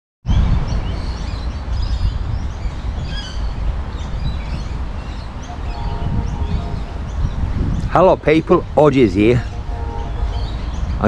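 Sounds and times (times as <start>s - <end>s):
birds chirping: 0.3s - 11.0s
loud uneven low rumble: 1.9s - 11.0s.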